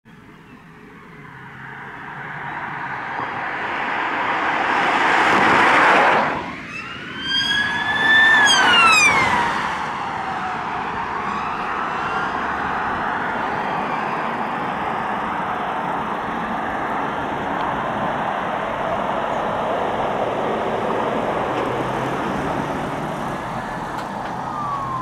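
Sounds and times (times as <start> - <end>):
car tyre and engine noise: 0.0 - 25.0
police siren wail: 0.5 - 19.1, 19.8 - 25.0.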